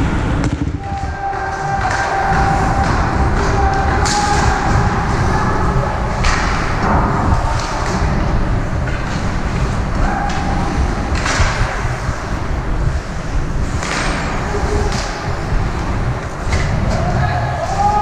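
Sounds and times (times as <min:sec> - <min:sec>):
low rumble of rink noise: 0:00.0 - 0:18.0.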